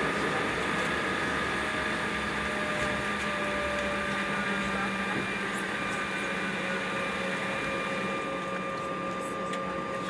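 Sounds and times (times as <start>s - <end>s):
aircraft cabin hum: 0.0s - 10.0s
jet engine whine: 0.0s - 10.0s.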